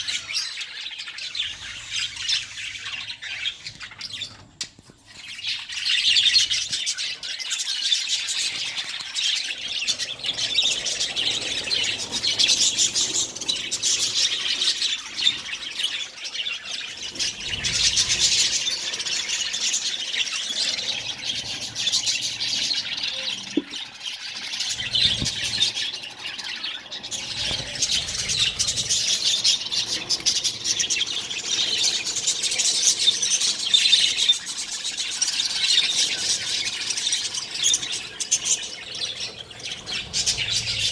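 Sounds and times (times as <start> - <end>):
budgerigars chattering and squawking: 0.0 - 4.5, 5.1 - 40.9.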